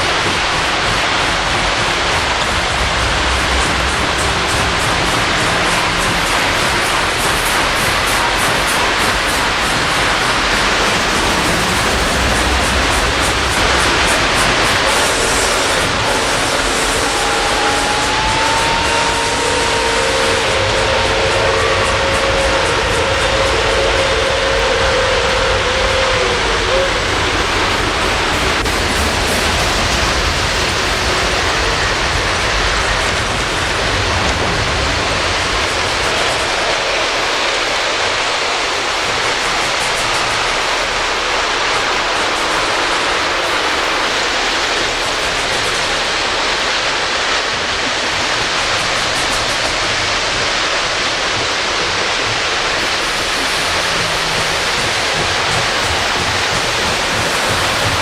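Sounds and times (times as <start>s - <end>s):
model trains rushing on track: 0.0s - 58.0s.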